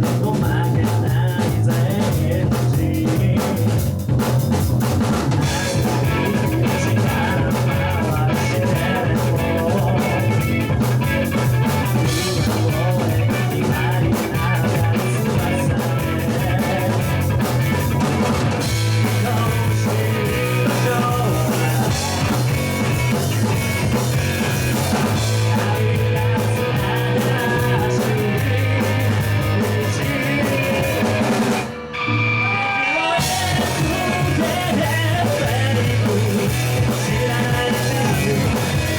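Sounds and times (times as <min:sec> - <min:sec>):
person singing: 0:00.0 - 0:03.7, 0:05.3 - 0:38.9
drum kit: 0:00.0 - 0:38.9
guitar: 0:00.0 - 0:38.9
rock band playing: 0:00.0 - 0:38.9.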